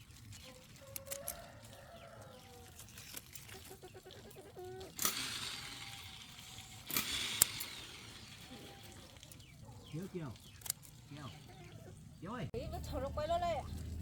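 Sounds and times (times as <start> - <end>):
chickens clucking: 0.3 - 12.5.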